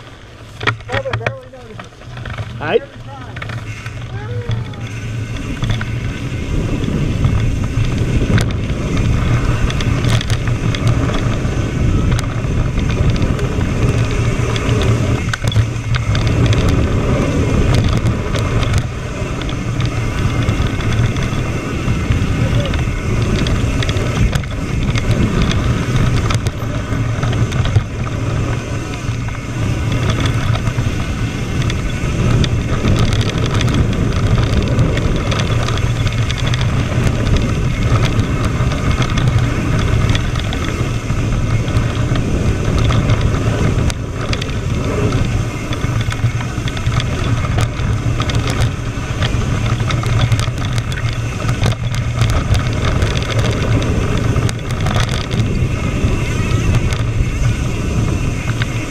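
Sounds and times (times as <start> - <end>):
bike clicks and rattles: 0.0 - 58.9
tyres rumbling on dirt trail: 0.0 - 58.9
wind rushing over microphone: 0.0 - 58.9.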